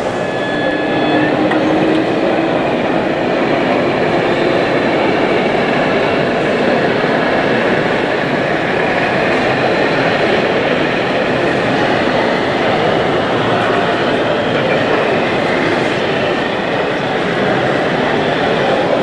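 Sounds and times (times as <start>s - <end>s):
busy exhibition hall background noise: 0.0s - 19.0s.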